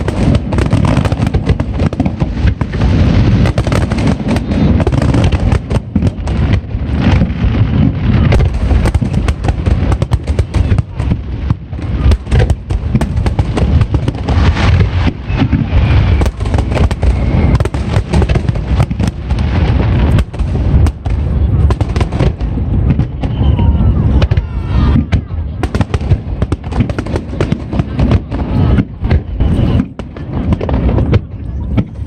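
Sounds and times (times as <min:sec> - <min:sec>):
fireworks booming and crackling: 0:00.0 - 0:32.0.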